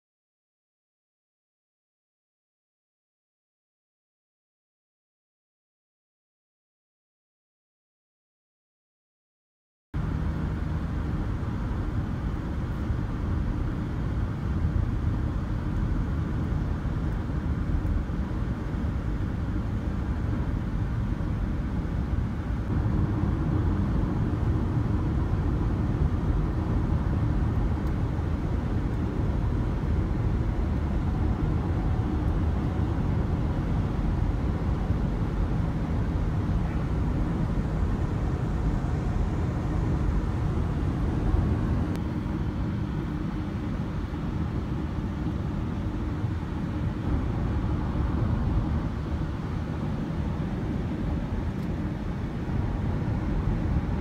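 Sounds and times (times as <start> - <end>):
moving car rumble: 10.0 - 54.0.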